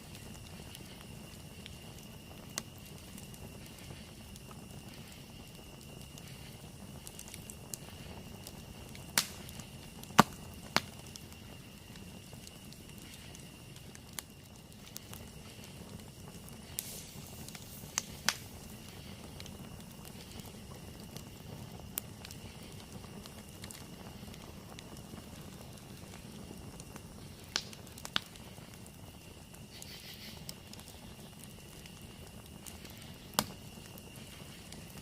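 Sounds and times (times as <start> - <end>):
campfire burning rush: 0.0 - 35.0
fire crackles and pops: 0.0 - 35.0.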